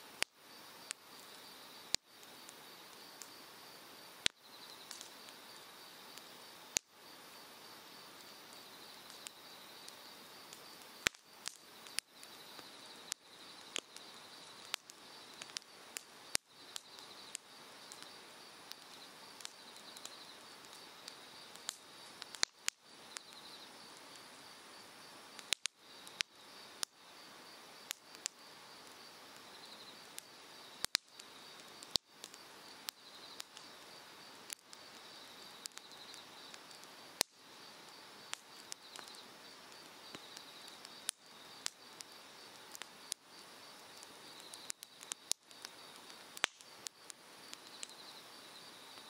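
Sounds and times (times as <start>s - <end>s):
firewood crackling and popping: 0.0s - 49.0s
insects trilling: 0.0s - 49.0s.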